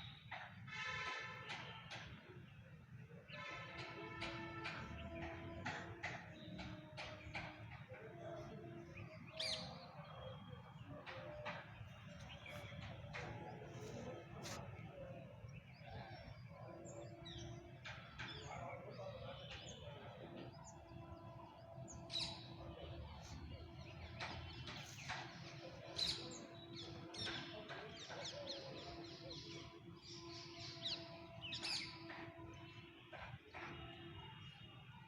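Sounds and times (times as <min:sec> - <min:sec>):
birds chirping: 0:03.3 - 0:34.7.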